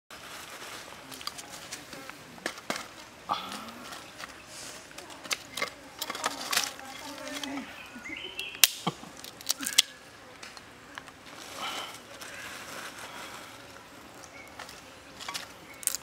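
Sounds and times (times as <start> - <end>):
twigs clicking and snapping: 1.1 - 16.0.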